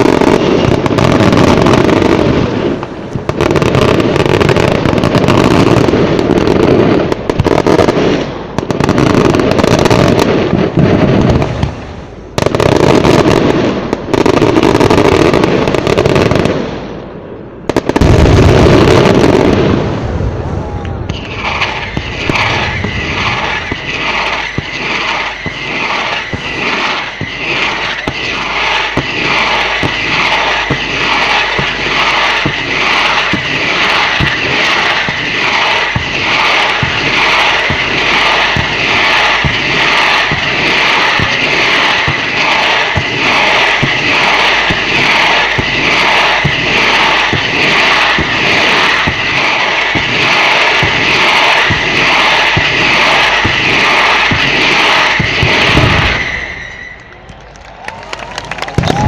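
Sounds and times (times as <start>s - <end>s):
fireworks rushing hiss: 0.0s - 17.0s, 17.7s - 57.1s
fireworks reports: 0.0s - 59.0s.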